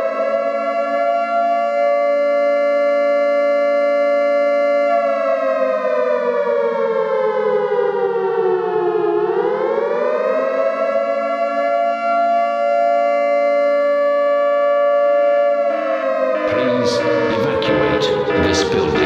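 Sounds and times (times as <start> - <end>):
siren tone over sound system: 0.0 - 19.0.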